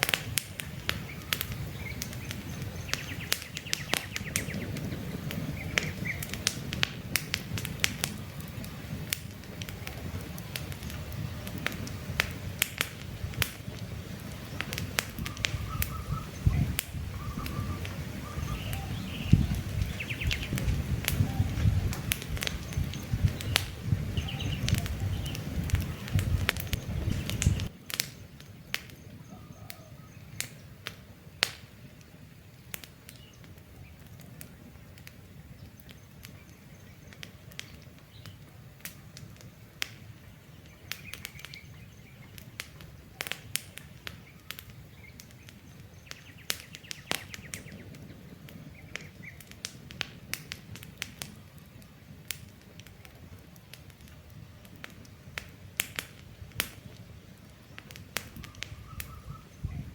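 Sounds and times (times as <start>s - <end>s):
campfire crackling: 0.0s - 59.9s
birds chirping: 0.1s - 6.8s, 7.5s - 49.7s, 56.4s - 59.9s.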